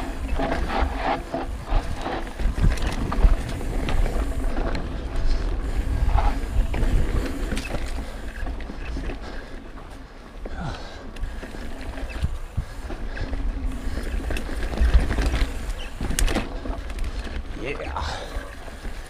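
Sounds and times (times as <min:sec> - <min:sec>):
wind buffeting microphone: 0:00.0 - 0:09.4, 0:11.2 - 0:19.0
bike rattling and clicking: 0:00.0 - 0:19.0
bike tyres crunching over dirt: 0:00.0 - 0:19.0.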